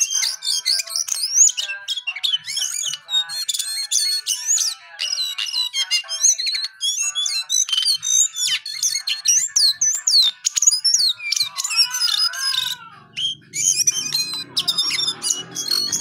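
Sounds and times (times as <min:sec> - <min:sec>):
bulbul singing: 0:00.0 - 0:16.0.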